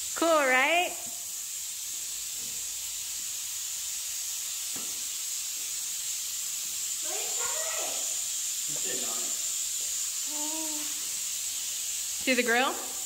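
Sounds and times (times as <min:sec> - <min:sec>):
high-pitched background hiss: 0:00.0 - 0:13.0.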